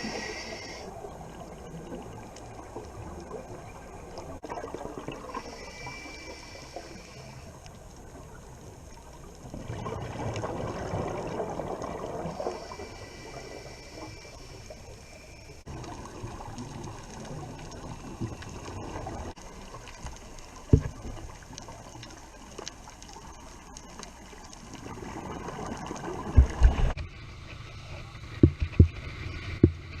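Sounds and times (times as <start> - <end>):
muffled water bubbling and gurgling: 0.0 - 30.0.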